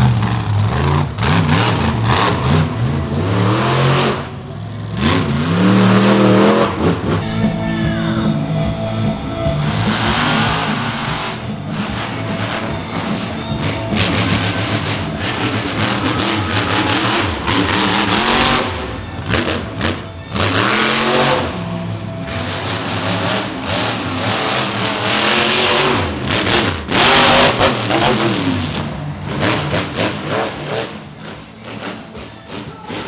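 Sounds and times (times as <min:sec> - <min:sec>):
monster truck engine revving: 0:00.0 - 0:33.0
music playing: 0:00.0 - 0:33.0.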